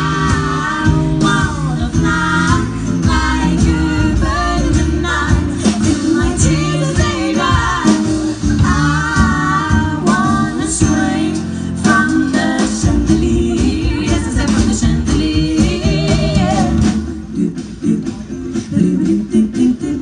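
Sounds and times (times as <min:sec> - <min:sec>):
small band with guitar: 0:00.0 - 0:20.0
women singing close harmony: 0:00.0 - 0:20.0.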